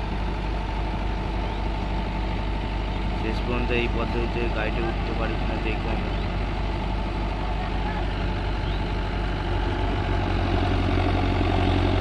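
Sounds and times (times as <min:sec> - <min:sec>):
diesel tractor engines straining: 0:00.0 - 0:12.0.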